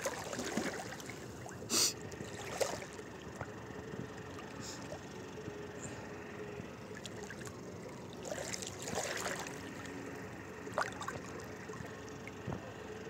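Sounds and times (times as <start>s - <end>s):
sea water lapping and splashing: 0.0s - 5.2s, 6.8s - 12.5s.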